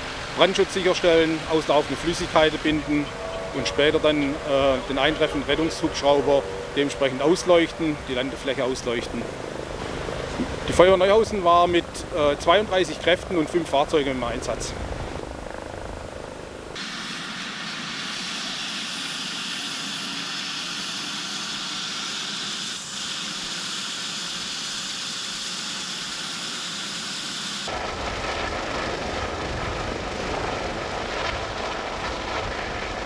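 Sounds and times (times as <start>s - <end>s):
helicopter rotor noise: 0.0s - 33.0s
helicopter turbine whine: 0.0s - 33.0s.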